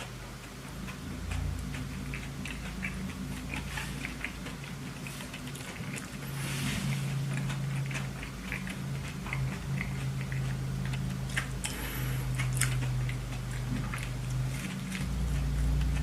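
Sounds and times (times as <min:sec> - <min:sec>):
biting and chewing food: 0:00.0 - 0:16.0
steady low hum: 0:00.0 - 0:16.0.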